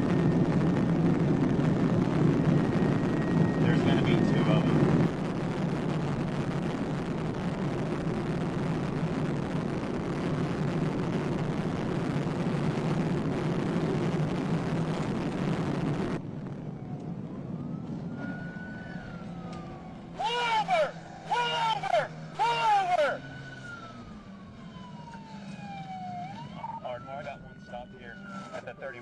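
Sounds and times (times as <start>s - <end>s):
car cabin wind and road noise: 0.0s - 29.0s
faint siren: 0.0s - 29.0s.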